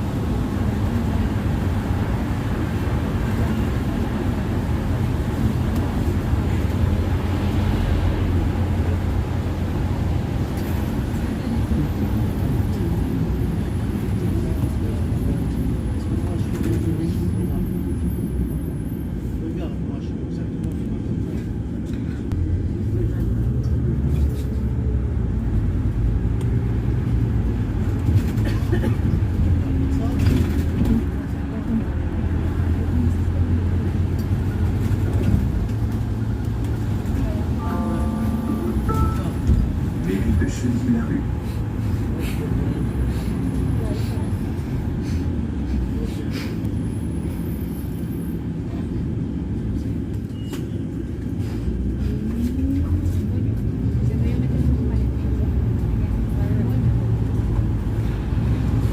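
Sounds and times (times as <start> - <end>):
bus engine rumbling: 0.0 - 58.9.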